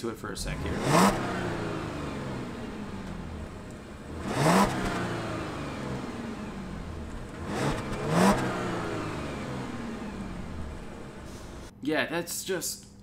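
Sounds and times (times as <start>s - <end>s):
car engine idling and revving: 0.3s - 11.7s.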